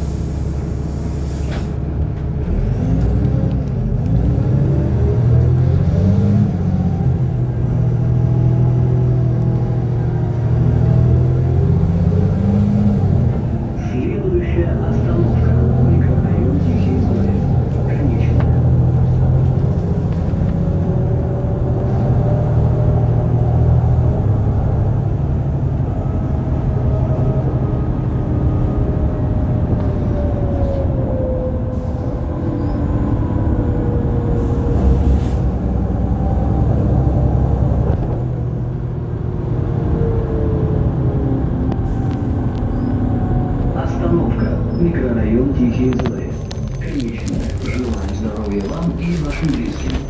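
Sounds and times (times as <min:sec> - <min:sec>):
bus engine hum with whine: 0:00.0 - 0:50.0.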